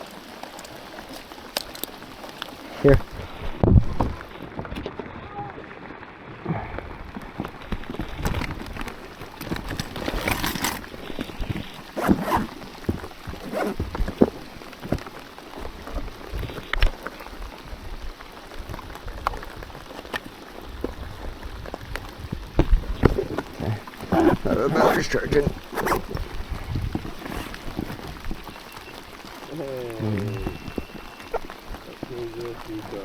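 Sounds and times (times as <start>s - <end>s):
heavy rain pattering: 0.0s - 33.0s.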